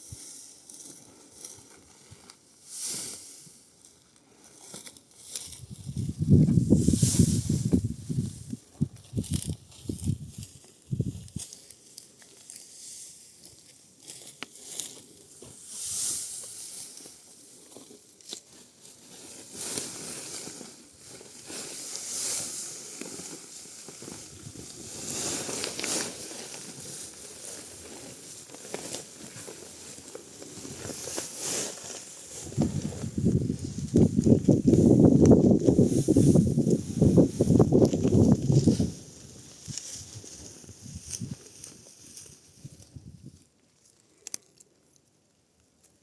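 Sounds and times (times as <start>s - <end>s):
dry wheat stalks rustling: 0.0s - 46.0s.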